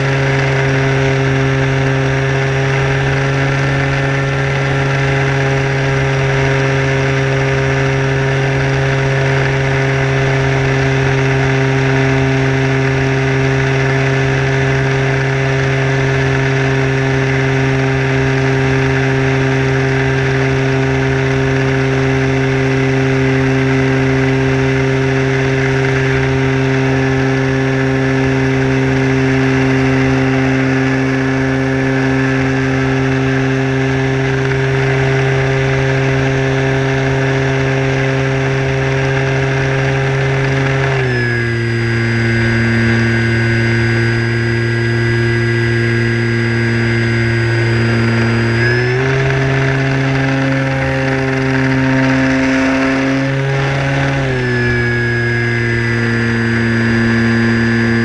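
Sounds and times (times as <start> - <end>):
model airplane motor drone: 0.0 - 58.0.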